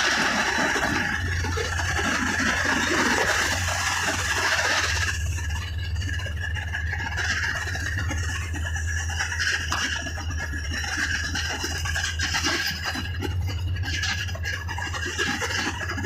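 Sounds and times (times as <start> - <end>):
light rattles and ticks: 0.0 - 16.0
vehicle engine and road noise: 0.0 - 16.0.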